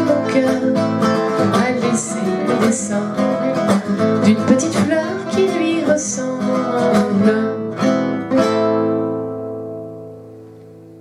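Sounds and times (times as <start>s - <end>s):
acoustic guitars strumming: 0.0s - 11.0s.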